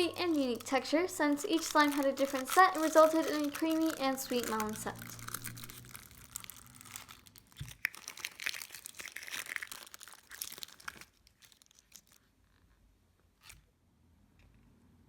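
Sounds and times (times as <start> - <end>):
slime crackling and popping: 0.0 - 12.2.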